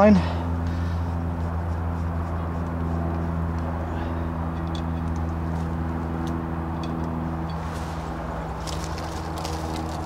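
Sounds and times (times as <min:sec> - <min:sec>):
machine droning: 0:00.0 - 0:10.0.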